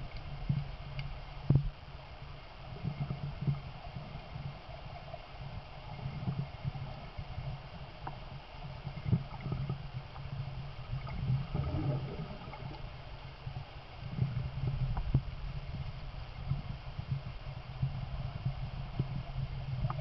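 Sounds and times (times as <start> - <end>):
underwater river rumble and gurgle: 0.0 - 20.0.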